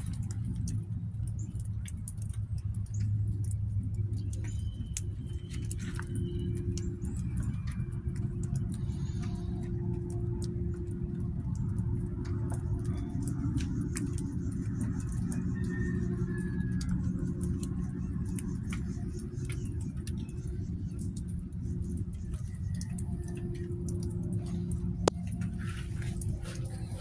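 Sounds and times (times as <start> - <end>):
rain dripping onto leaves: 0.0 - 27.0
steady low hum: 0.0 - 27.0.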